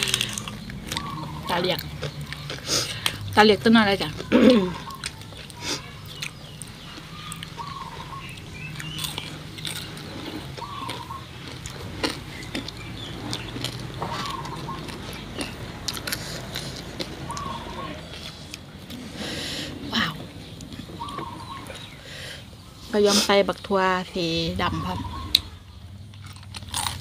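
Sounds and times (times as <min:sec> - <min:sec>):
people chewing crunchy food: 0:00.0 - 0:23.3, 0:24.8 - 0:27.0.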